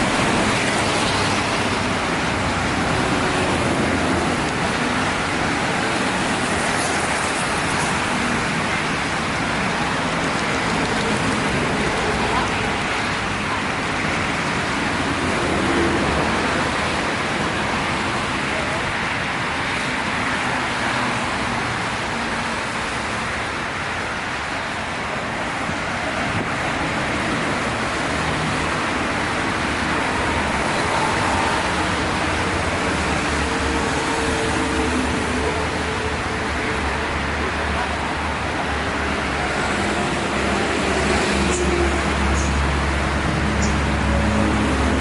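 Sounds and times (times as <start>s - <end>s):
highway traffic: 0.0s - 45.0s
large vehicle engine hum: 0.0s - 45.0s
tyre and road noise: 0.0s - 45.0s.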